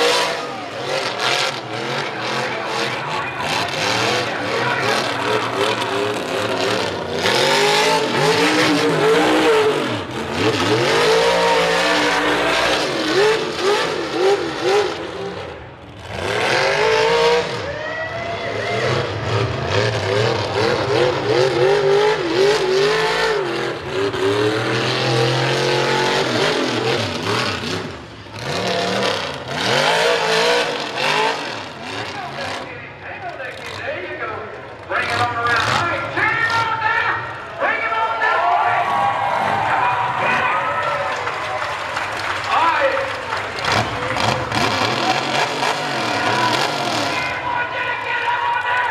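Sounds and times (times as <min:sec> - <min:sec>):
truck engine revving: 0:00.0 - 0:37.5, 0:38.6 - 0:48.6.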